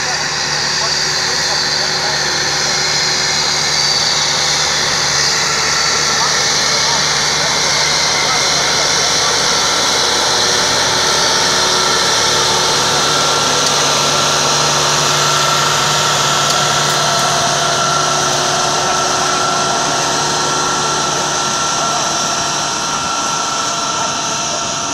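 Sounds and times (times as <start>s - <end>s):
high whine: 0.0s - 24.9s
tractor diesel engine under load: 0.0s - 24.9s.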